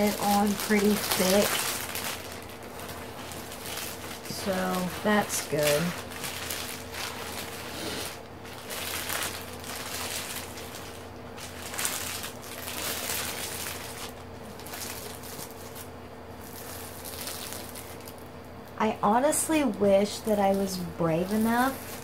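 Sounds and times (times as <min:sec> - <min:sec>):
faint steady hum: 0:00.0 - 0:22.0
plastic film crinkling: 0:00.0 - 0:22.0.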